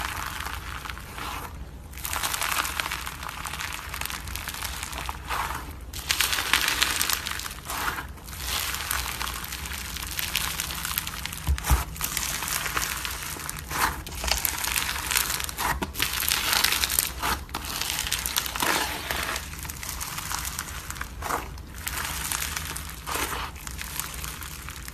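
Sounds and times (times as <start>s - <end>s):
slime crackling and popping: 0.0s - 24.9s.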